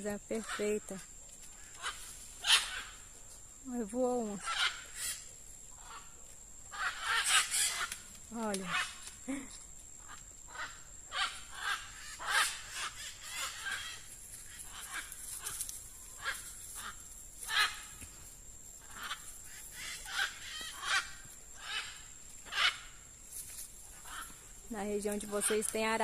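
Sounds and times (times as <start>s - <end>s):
macaws squawking: 0.3s - 1.0s, 1.6s - 3.1s, 4.1s - 9.1s, 10.0s - 18.1s, 18.8s - 23.0s, 23.9s - 24.5s, 25.1s - 26.0s.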